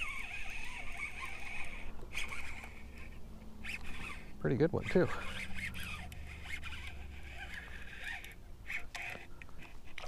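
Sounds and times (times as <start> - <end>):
fishing reel whirring: 0.0 - 10.0.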